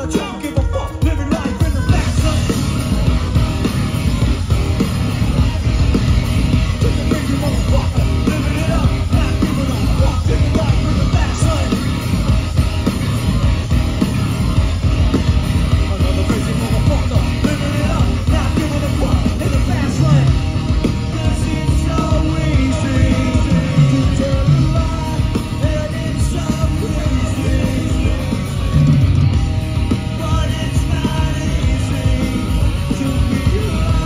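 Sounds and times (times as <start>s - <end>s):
bass: 0.0s - 34.0s
drums: 0.0s - 34.0s
heavy guitars: 0.0s - 34.0s.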